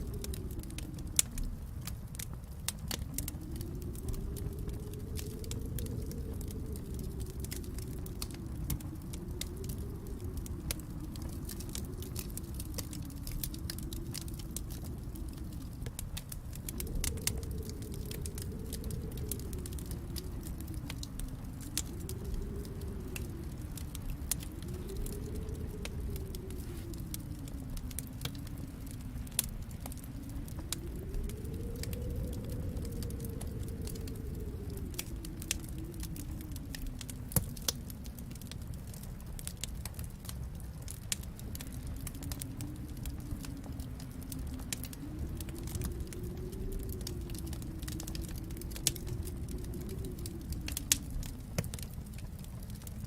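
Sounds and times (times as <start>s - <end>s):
fire popping: 0.0s - 53.0s
storm wind howling: 0.0s - 53.0s
wood fire crackling: 0.0s - 53.0s.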